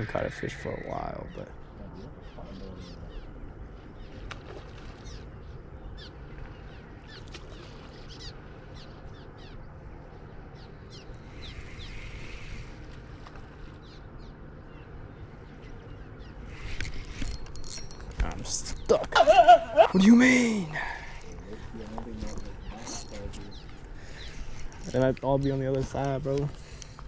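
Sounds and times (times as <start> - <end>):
birds chirping: 0.0 - 27.0
low background rumble: 0.0 - 27.0.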